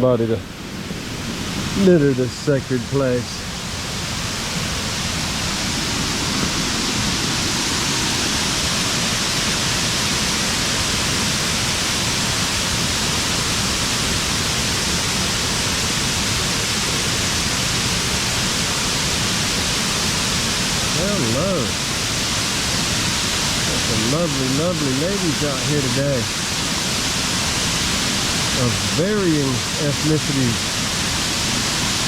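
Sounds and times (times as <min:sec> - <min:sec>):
waterfall rushing: 0:00.2 - 0:32.0.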